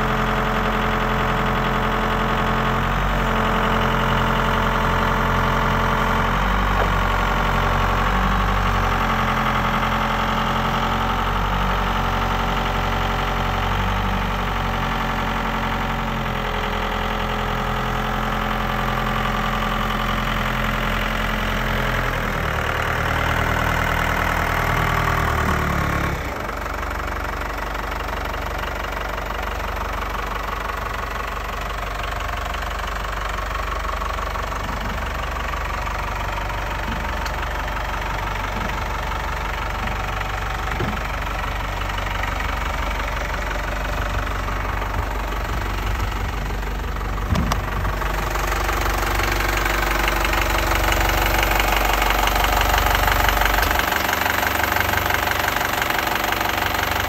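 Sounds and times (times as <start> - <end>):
forklift diesel engine running: 0.0 - 57.0.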